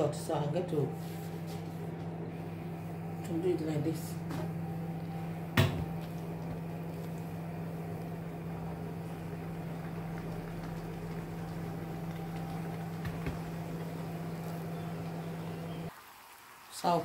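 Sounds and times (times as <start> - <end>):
kitchen appliance motor humming: 0.0 - 15.9.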